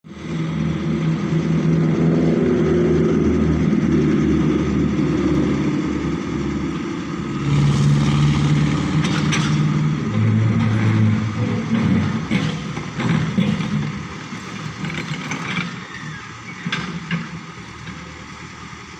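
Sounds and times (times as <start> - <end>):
diesel engine working: 0.0 - 18.9.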